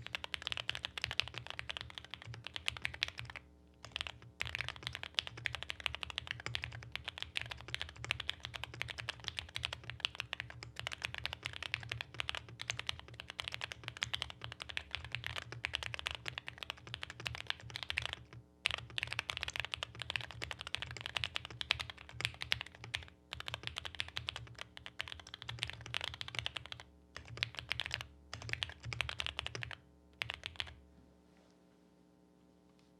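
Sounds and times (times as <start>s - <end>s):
mechanical keyboard typing clacks: 0.0s - 30.8s.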